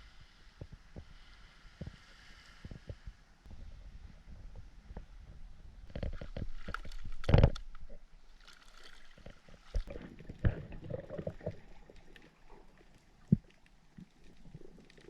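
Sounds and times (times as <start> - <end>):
water sloshing and gurgling: 0.6 - 15.0.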